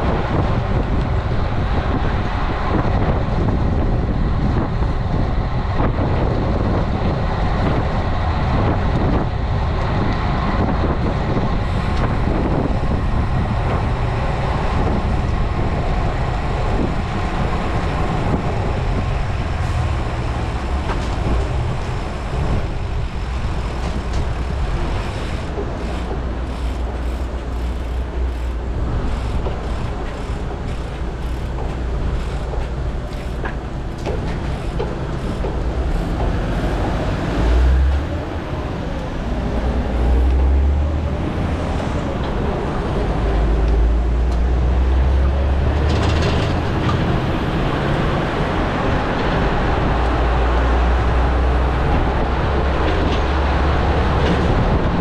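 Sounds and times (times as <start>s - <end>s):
passing road traffic: 0.0s - 55.0s
wind rumble on microphone: 0.0s - 55.0s.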